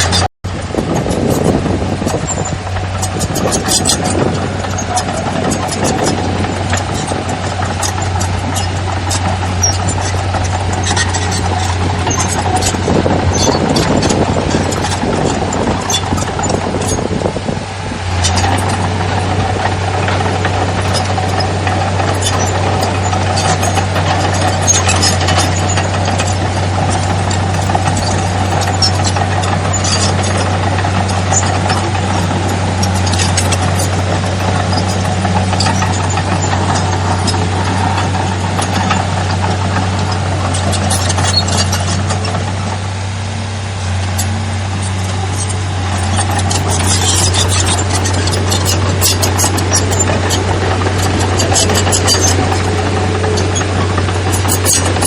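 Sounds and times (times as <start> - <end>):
metallic clanks and knocks: 0.0 - 17.4, 18.1 - 42.8, 43.9 - 55.0
heavy diesel engine running: 0.0 - 55.0.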